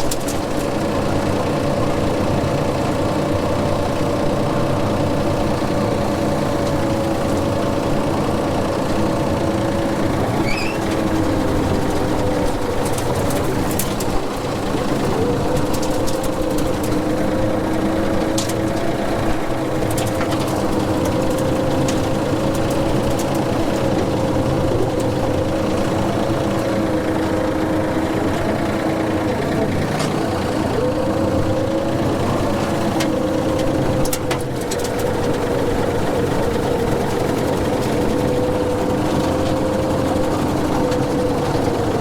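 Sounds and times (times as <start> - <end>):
rotary mower humming: 0.0 - 42.0
tractor engine droning: 0.0 - 42.0.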